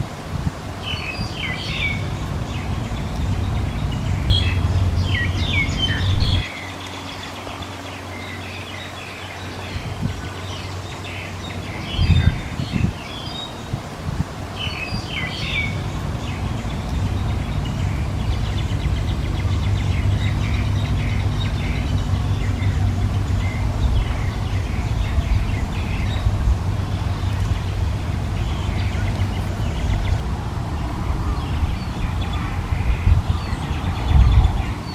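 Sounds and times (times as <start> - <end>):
steady low rumble: 0.0 - 34.9
small birds chirping: 0.8 - 34.9.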